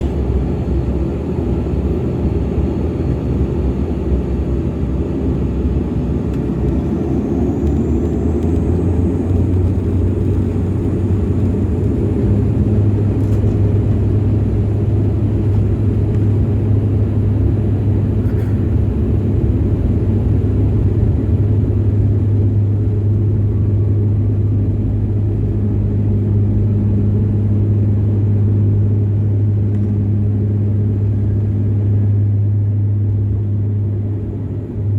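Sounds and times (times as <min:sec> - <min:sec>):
turboprop engines and propellers: 0:00.0 - 0:34.9.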